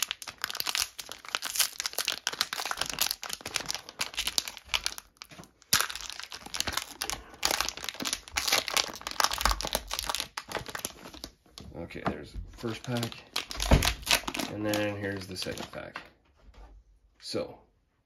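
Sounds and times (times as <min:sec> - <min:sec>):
sharp plastic crack: 0:00.0 - 0:11.3, 0:12.7 - 0:16.0
plastic wrapper tearing and crinkling: 0:00.0 - 0:11.6, 0:12.6 - 0:16.0.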